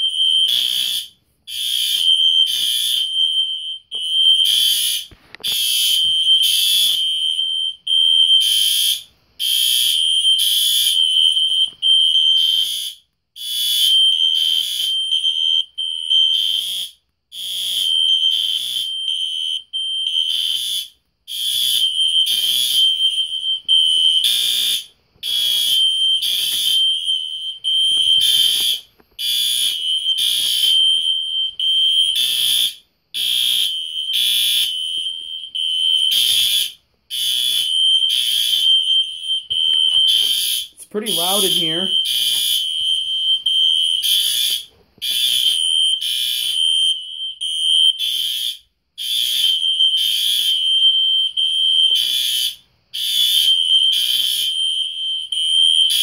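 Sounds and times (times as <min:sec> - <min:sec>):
fire alarm horn pulsing: 0:00.0 - 0:56.0.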